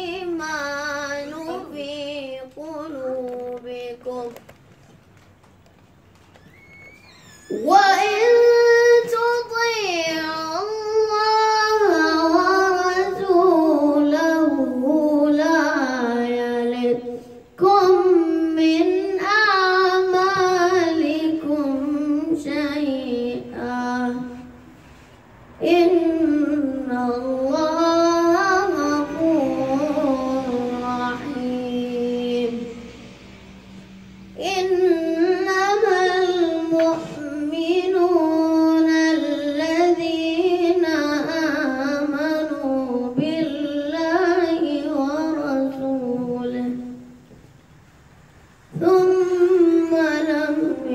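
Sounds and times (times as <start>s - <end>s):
boy chanting melodically: 0.0s - 4.8s, 7.4s - 24.8s, 25.4s - 47.4s, 48.6s - 50.9s.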